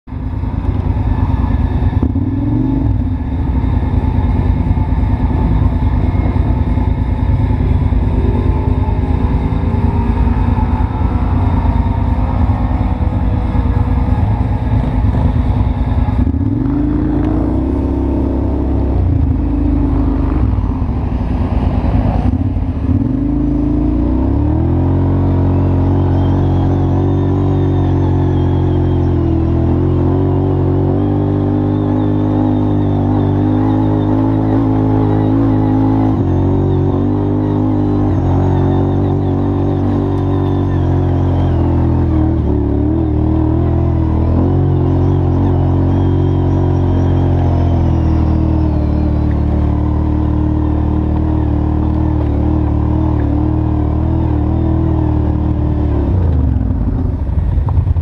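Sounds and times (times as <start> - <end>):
quad bike engine revving: 0.4 - 58.0.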